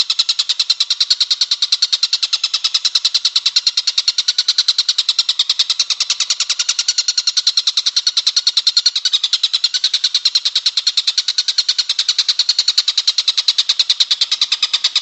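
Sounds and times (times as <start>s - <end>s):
kingfisher fast chatter: 0.0s - 15.0s.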